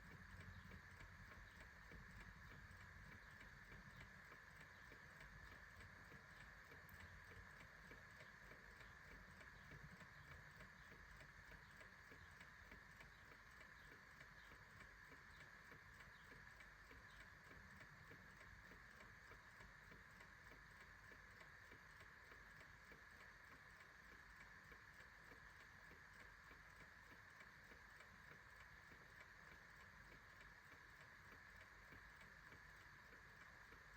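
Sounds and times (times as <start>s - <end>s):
clock ticking: 0.0s - 33.9s
low steady hiss: 0.0s - 33.9s.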